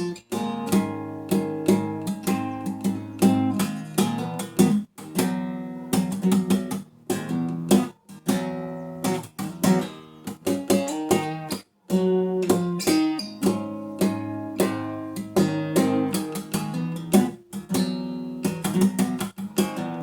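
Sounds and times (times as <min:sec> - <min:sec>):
acoustic guitar played fingerstyle: 0:00.0 - 0:20.0.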